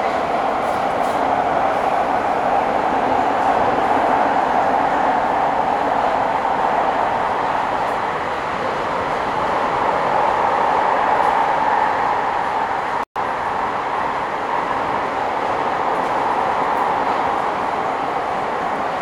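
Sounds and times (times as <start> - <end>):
metro train running in tunnel: 0.0 - 19.0.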